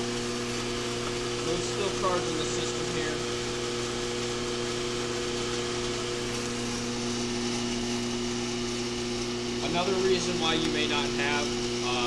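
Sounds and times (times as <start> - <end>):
machine humming with low drone: 0.0 - 12.0.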